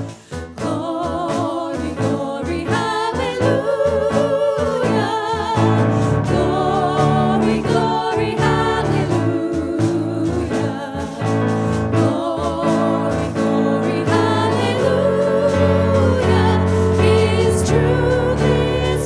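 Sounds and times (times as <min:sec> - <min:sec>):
person singing with vibrato: 0:00.0 - 0:19.0
sustained instrumental accompaniment: 0:00.0 - 0:19.0.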